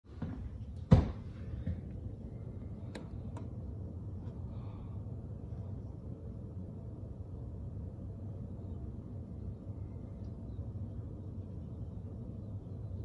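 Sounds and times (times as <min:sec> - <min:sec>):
low steady rumble: 0:00.1 - 0:13.0.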